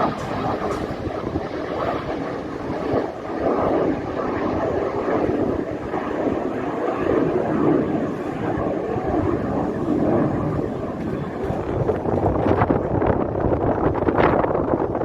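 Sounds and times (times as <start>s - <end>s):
jet aircraft noise: 0.0s - 15.0s
wind buffeting microphone: 0.0s - 15.0s.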